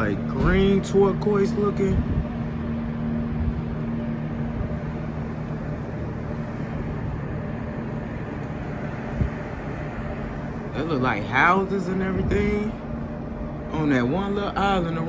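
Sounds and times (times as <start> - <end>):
ship engine low hum: 0.0 - 15.0
wind and water rushing: 0.0 - 15.0.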